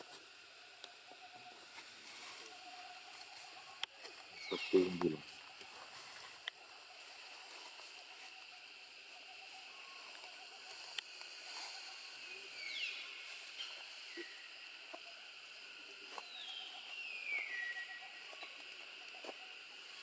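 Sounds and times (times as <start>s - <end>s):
steady high outdoor hum: 0.0s - 20.0s.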